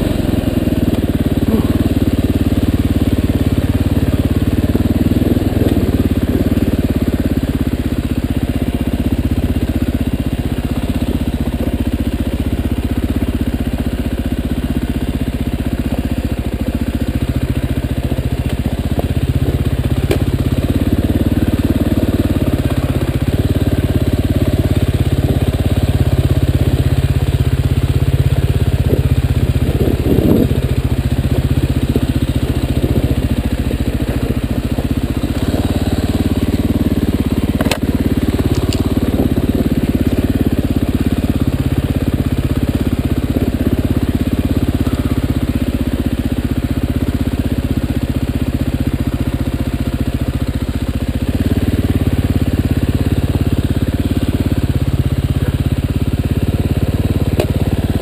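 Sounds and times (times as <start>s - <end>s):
dirt bike engine at low revs: 0.0s - 58.0s.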